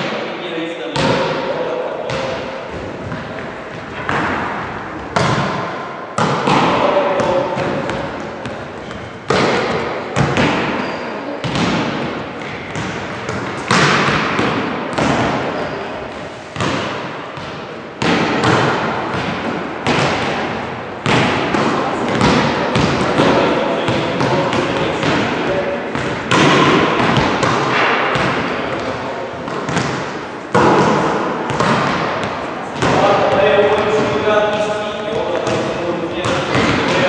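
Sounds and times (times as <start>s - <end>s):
volleyballs smacking on hall floor: 0.9s - 1.5s, 2.1s - 37.0s.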